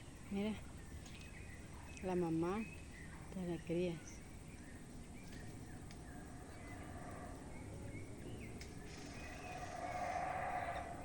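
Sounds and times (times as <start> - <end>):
faint bird chirps and whistles: 0.0 - 11.0
low background rumble: 0.0 - 11.0.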